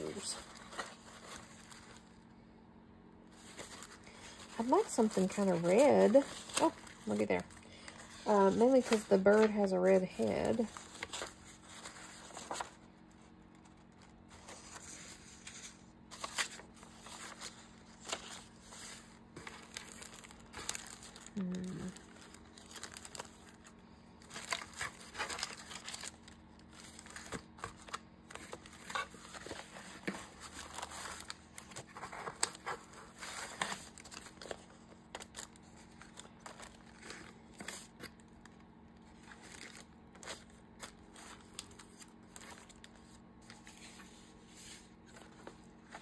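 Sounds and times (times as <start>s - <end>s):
paper rustling and crinkling: 0.0s - 2.3s, 3.3s - 46.0s.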